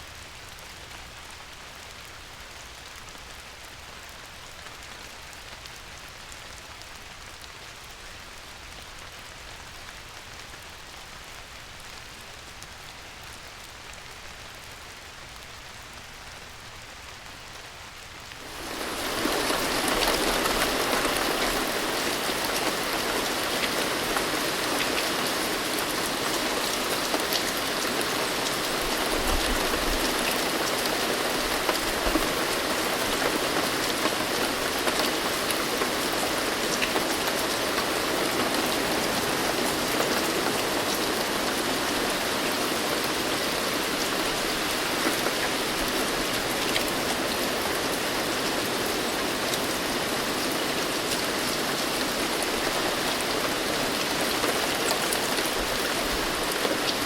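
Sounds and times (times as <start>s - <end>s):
heavy rainfall hiss: 0.0s - 57.0s.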